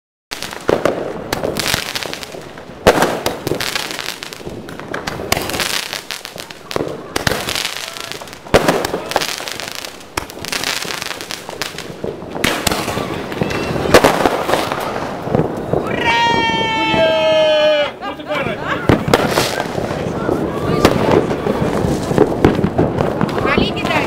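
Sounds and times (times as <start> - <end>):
fireworks bangs: 0.3 - 24.0
fireworks crackling: 0.3 - 24.0.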